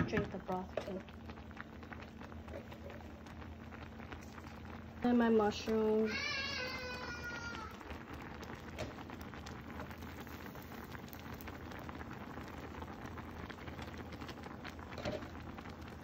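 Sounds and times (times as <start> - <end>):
broth bubbling in a pot: 0.0 - 16.0.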